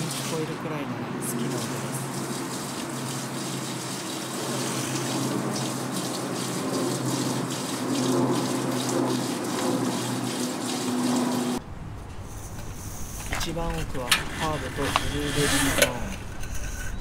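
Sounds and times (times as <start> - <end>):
water spraying from a hose: 0.0 - 11.6, 12.3 - 16.1.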